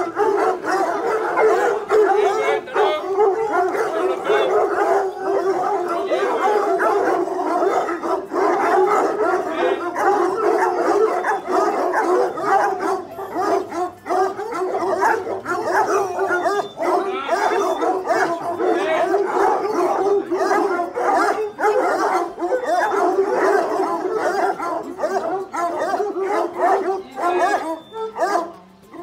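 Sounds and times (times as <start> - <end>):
hounds baying and howling: 0.0 - 29.0.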